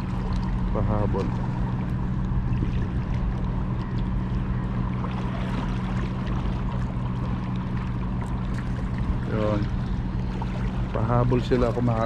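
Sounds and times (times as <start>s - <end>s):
low motor hum: 0.0s - 12.0s
water lapping against rocks: 0.0s - 12.0s.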